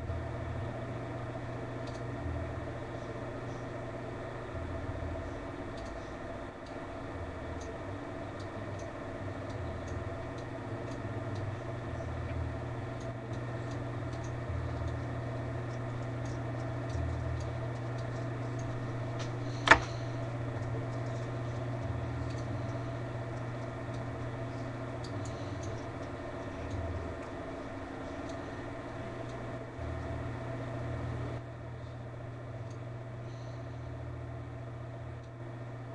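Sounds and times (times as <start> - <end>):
computer humming: 0.0 - 35.9.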